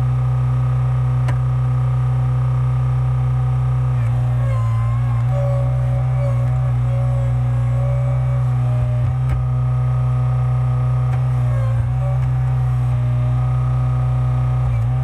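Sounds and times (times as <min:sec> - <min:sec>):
skid steer engine droning: 0:00.0 - 0:15.0.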